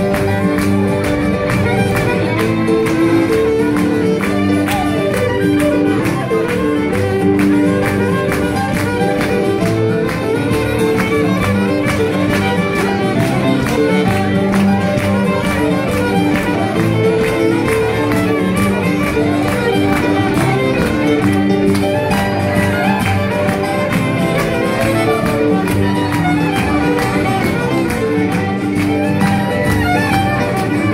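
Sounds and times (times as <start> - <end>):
acoustic guitar: 0.0 - 30.9
fiddle playing: 0.0 - 30.9
sharp rhythmic taps: 0.0 - 30.9.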